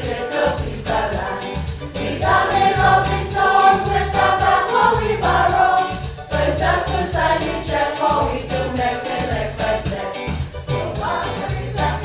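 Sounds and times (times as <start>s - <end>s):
group singing a church song: 0.0s - 12.0s
light percussion beat: 0.0s - 12.0s
live band accompaniment: 0.0s - 12.0s.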